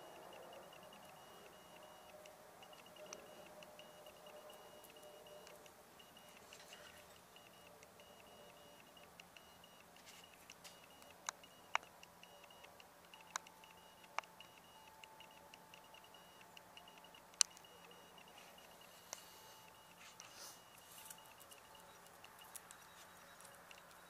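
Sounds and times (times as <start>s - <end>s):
sharp clicks: 0.0s - 24.0s.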